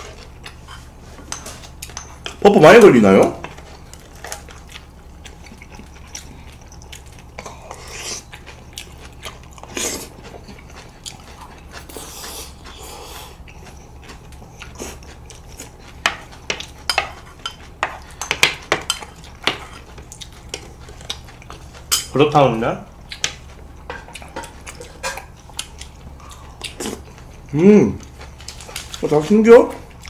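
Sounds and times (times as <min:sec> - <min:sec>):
people chewing: 0:00.0 - 0:30.0.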